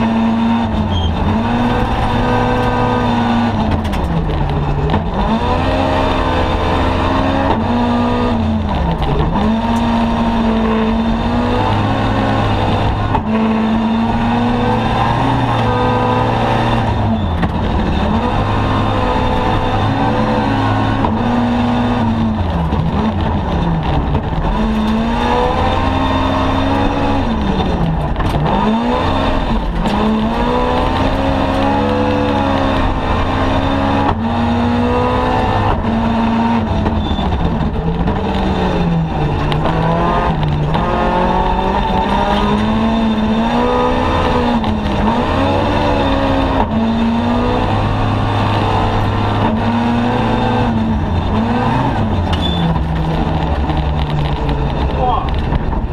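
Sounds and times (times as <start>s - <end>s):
race car engine revving: 0.0s - 55.9s
tyres rumbling on gravel: 0.0s - 55.9s.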